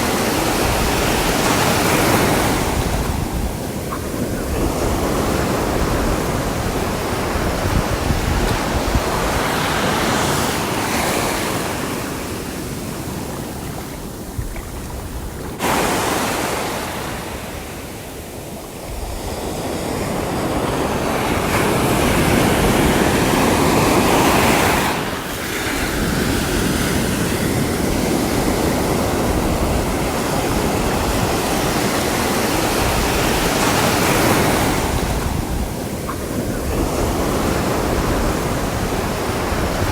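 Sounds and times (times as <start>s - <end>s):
sea waves breaking on shore: 0.0s - 39.9s
wind rumbling on microphone: 0.0s - 39.9s.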